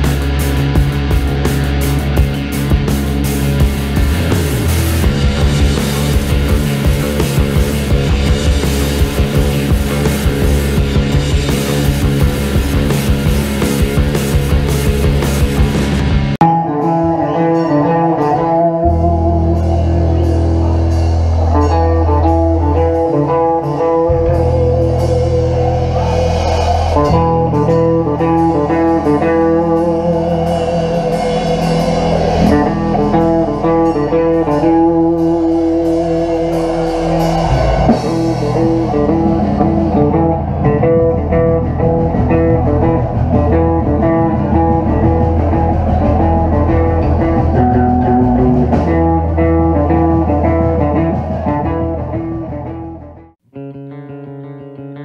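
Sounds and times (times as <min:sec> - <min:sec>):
bass line: 0:00.0 - 0:53.4
drum kit: 0:00.0 - 0:53.4
electric guitar riffing: 0:00.0 - 0:55.0.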